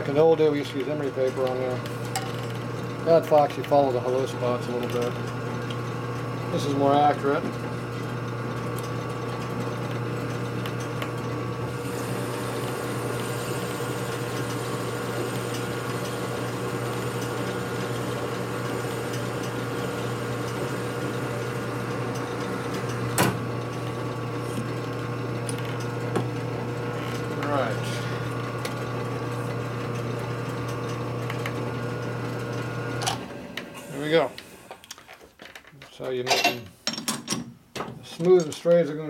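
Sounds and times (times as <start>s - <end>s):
metal lathe running: 0.0s - 34.7s.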